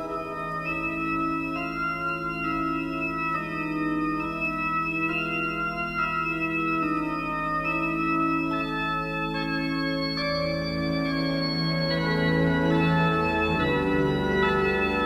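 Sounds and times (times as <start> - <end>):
organ chords: 0.0 - 15.0.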